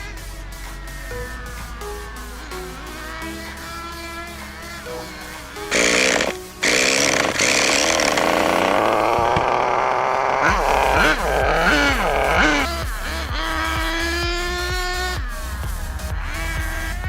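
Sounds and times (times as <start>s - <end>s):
small engine buzzing and revving: 0.0s - 17.0s.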